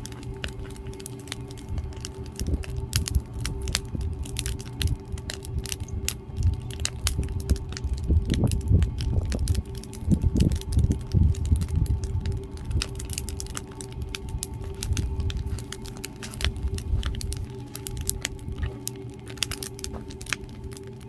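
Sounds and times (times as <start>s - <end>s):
firewood crackling and popping: 0.0s - 21.0s
low rumble of burning wood: 0.0s - 21.0s.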